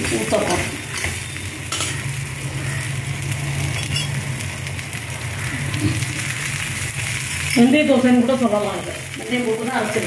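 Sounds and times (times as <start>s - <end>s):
batter sizzling on a griddle: 0.0s - 10.0s.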